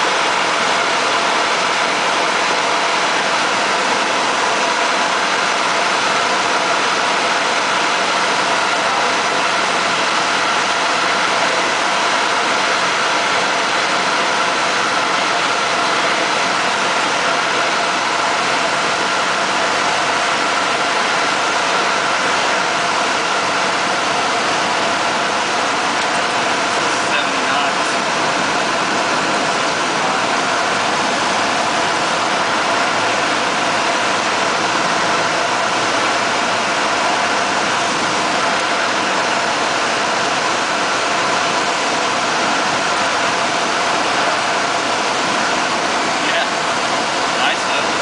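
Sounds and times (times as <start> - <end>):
light aircraft engine droning: 0.0 - 48.0.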